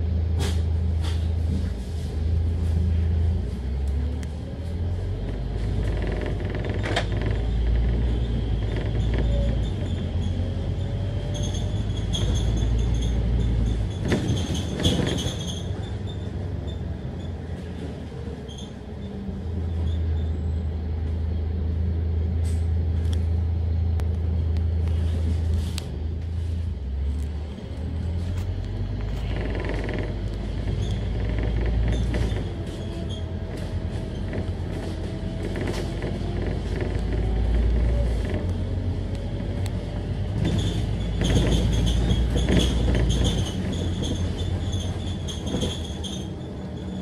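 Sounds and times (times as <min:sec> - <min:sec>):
bus diesel engine running: 0:00.0 - 0:47.0.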